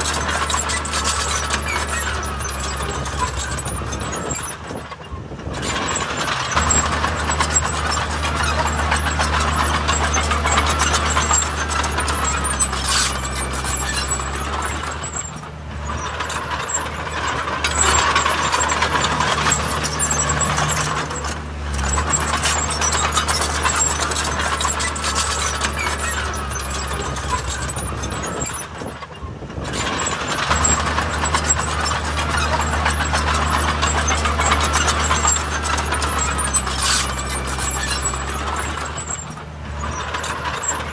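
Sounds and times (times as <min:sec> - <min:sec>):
diesel engine running: 0:00.0 - 0:40.9
metallic clanking and rattling: 0:00.0 - 0:40.9.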